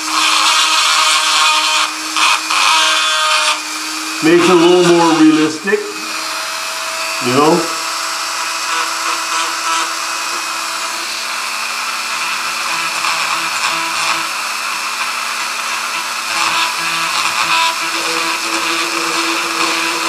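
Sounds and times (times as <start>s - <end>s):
bit grinding metal: 0.0s - 20.0s
rotary tool whining: 0.0s - 20.0s.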